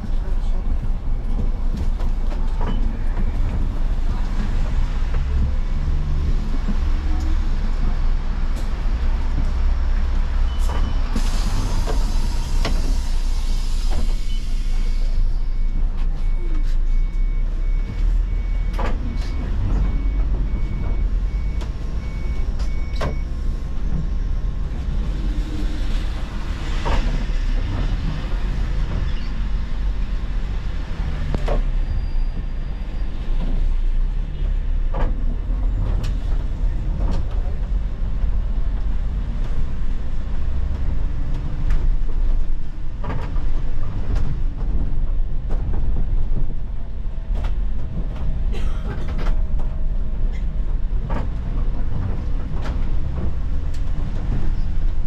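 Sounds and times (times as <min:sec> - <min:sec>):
bus body knocks and rattles: 0:00.0 - 0:13.1, 0:17.6 - 0:55.0
bus engine rumble: 0:00.0 - 0:55.0
road noise: 0:00.0 - 0:55.0.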